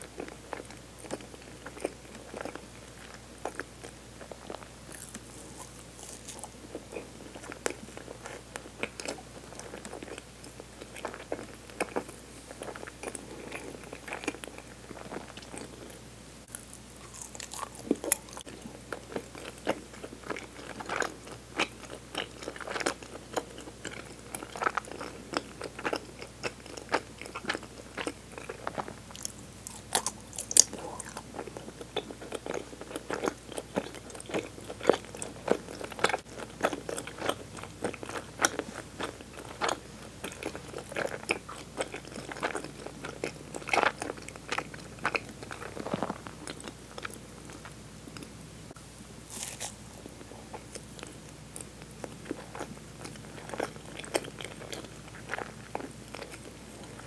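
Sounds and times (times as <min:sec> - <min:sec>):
chewing with mouth clicks: 0:00.0 - 0:48.3, 0:49.3 - 0:57.0.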